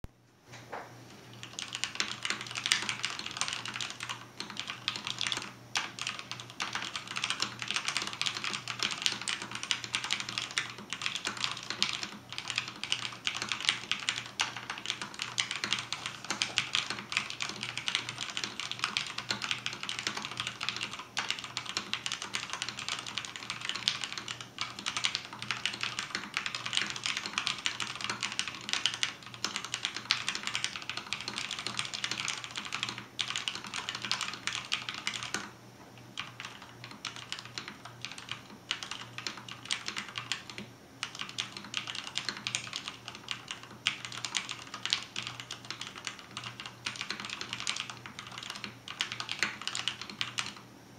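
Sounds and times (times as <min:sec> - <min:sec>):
fast mechanical keyboard typing: 0:01.3 - 0:50.6.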